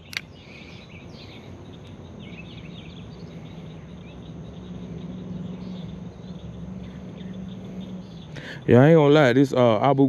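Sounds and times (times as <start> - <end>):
low steady hum: 0.0 - 10.0
small birds chirping: 0.0 - 10.0.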